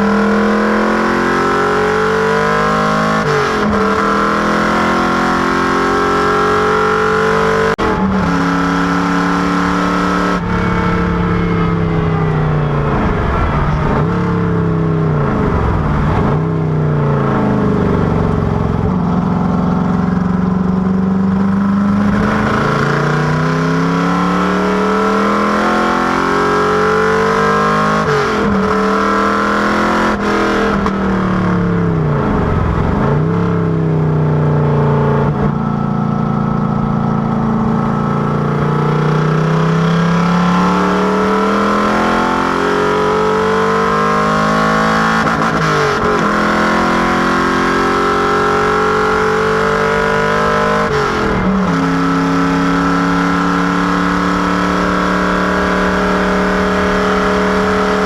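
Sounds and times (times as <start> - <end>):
engine running hard with gear changes: 0.0 - 58.0.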